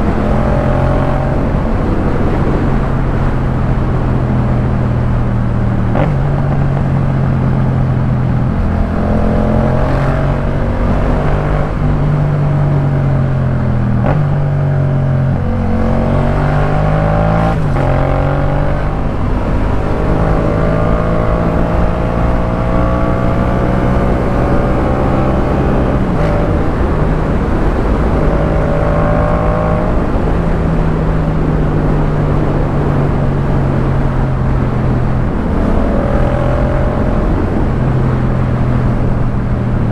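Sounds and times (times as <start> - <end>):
motorcycle engine revving: 5.7 - 39.9.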